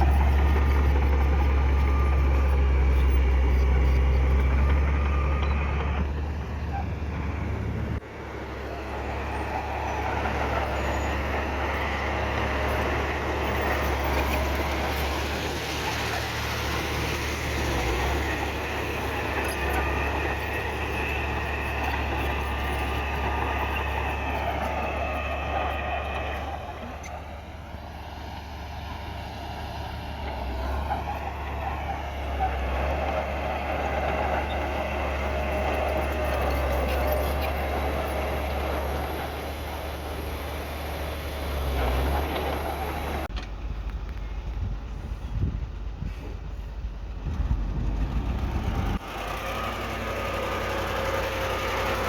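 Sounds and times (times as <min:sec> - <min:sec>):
heavy diesel engine droning: 0:00.0 - 0:52.0.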